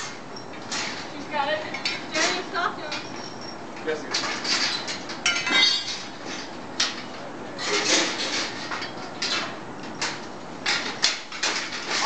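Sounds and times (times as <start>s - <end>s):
scraping and clinking of steel: 0.0s - 10.1s.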